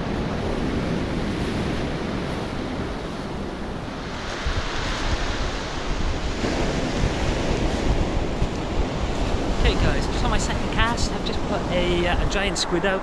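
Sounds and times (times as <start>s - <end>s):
waves breaking on pebble beach: 0.0s - 13.0s
wind buffeting microphone: 0.0s - 13.0s.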